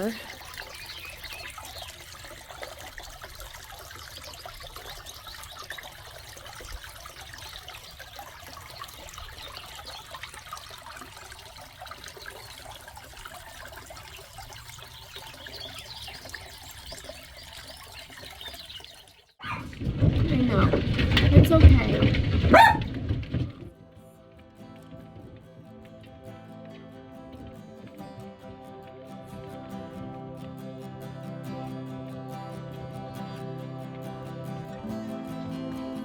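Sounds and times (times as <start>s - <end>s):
water trickling and splashing: 0.0s - 36.0s.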